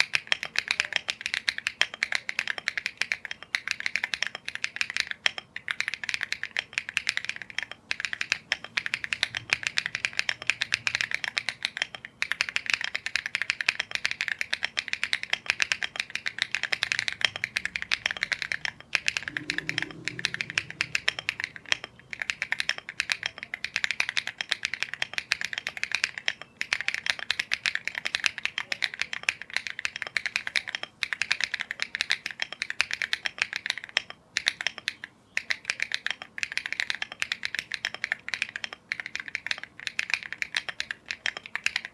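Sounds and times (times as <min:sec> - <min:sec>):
mechanical keyboard typing: 0:00.0 - 0:41.9.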